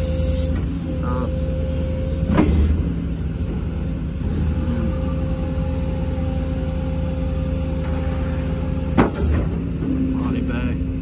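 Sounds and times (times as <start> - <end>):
diesel engine running: 0.0 - 11.0
hydraulic drive hum: 0.0 - 11.0
hydraulic wheel lift raising: 0.0 - 11.0.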